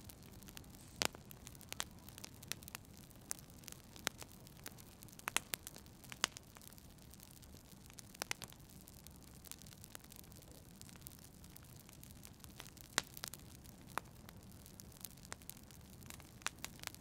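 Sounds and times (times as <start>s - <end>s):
low steady hiss: 0.0s - 17.0s
wood fire crackling and popping: 0.0s - 17.0s.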